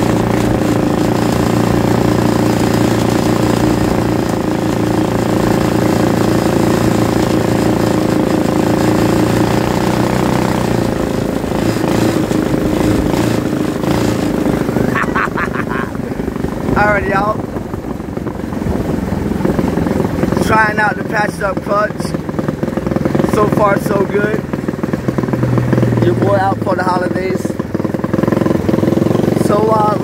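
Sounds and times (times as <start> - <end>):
go-kart engine running: 0.0 - 30.0.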